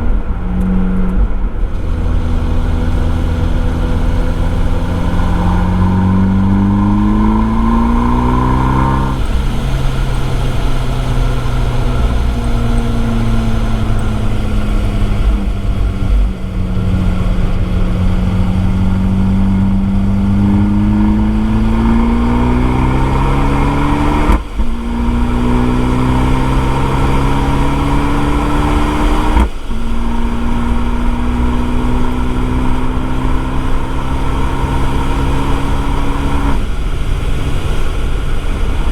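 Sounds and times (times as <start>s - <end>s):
car engine revving through upshifts: 0.0s - 38.9s.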